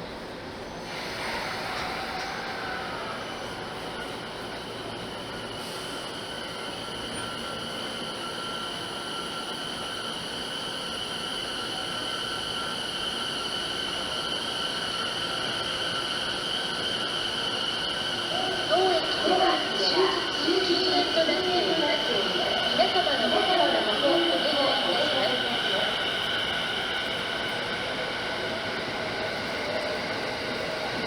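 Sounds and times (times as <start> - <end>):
electric train running: 0.4 - 31.0.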